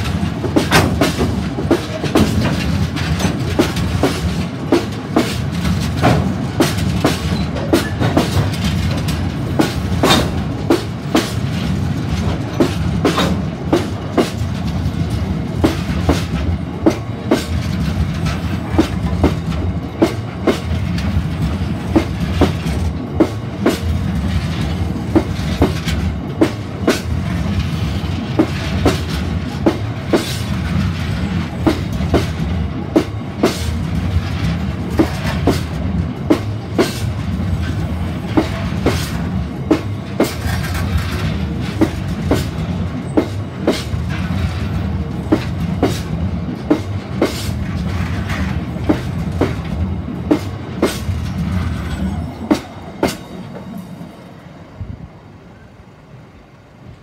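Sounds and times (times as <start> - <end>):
wheels clacking over rail joints: 0.0 - 54.1
train wheels rumbling on rail: 0.0 - 57.0.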